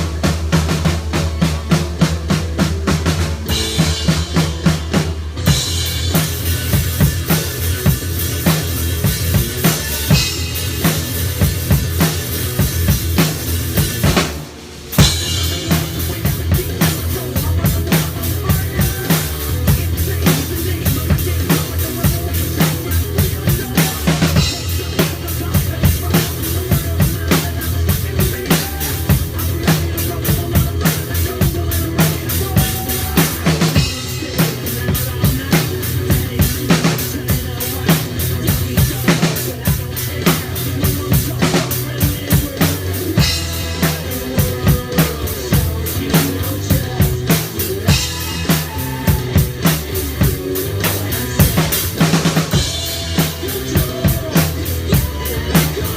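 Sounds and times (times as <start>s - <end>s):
drum kit rock beat: 0.0s - 55.9s.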